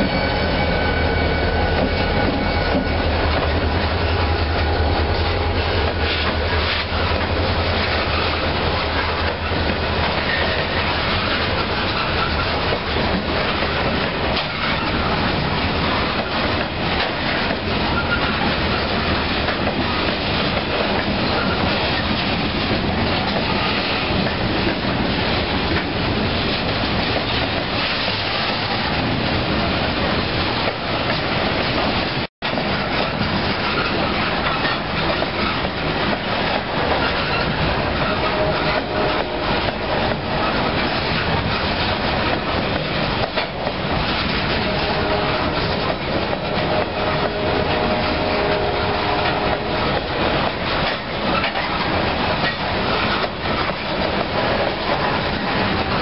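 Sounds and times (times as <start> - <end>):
freight train wheels rumbling: 0.0 - 56.0
rail joints clacking: 0.0 - 56.0.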